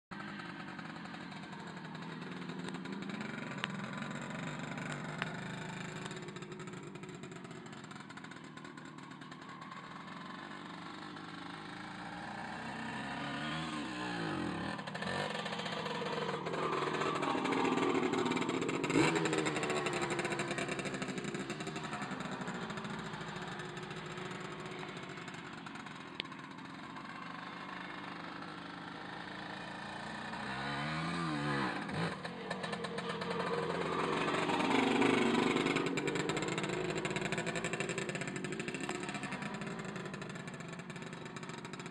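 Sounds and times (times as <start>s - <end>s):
two-stroke motocross engine revving: 0.2s - 41.9s.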